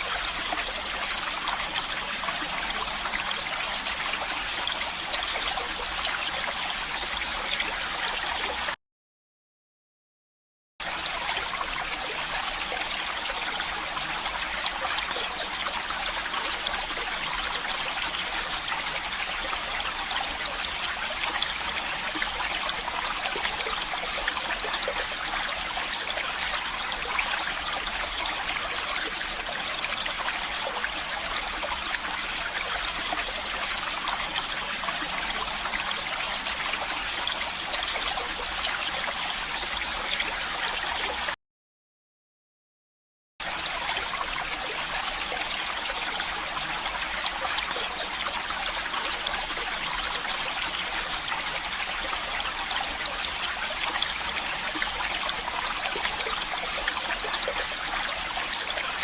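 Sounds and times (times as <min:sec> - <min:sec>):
stream trickling: 0:00.0 - 0:08.8, 0:10.8 - 0:41.4, 0:43.4 - 0:59.0.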